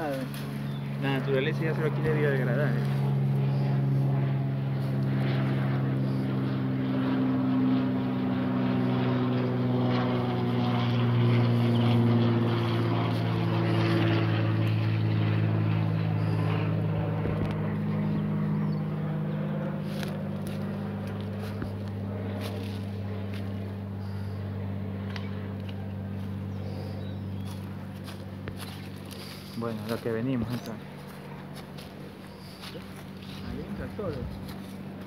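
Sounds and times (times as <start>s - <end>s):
engine drone: 0.0s - 35.0s.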